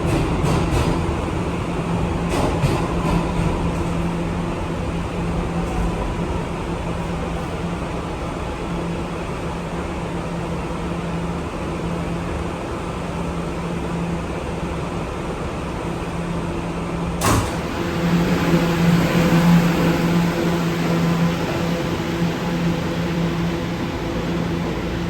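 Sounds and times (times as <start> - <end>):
subway train running: 0.0 - 25.0.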